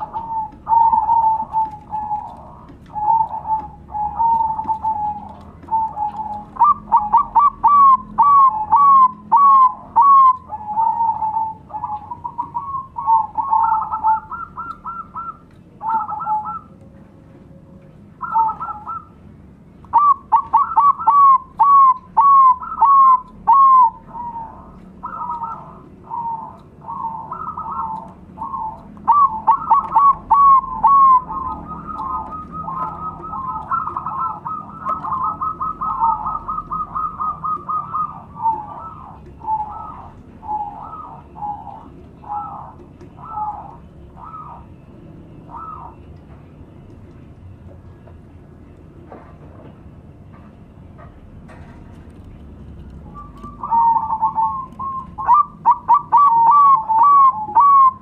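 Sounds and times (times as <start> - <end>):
doves cooing: 0.0 - 48.6, 51.2 - 58.0.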